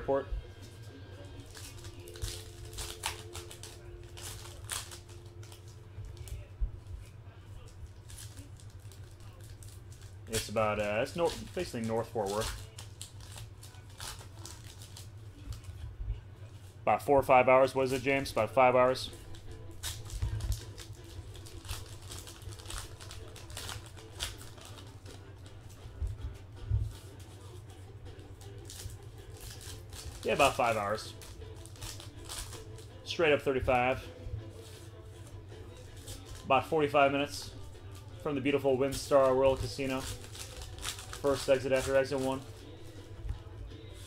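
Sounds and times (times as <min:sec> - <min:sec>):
cards and wrappers rustling: 0:00.0 - 0:15.8, 0:16.4 - 0:44.0.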